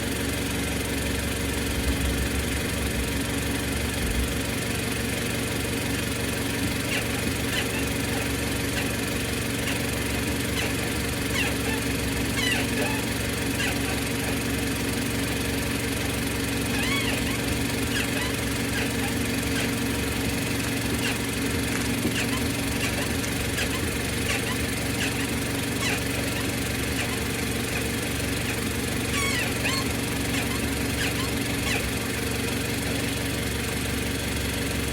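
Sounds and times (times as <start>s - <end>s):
car engine idling: 0.0s - 34.9s
suspension squeaks: 5.0s - 33.4s.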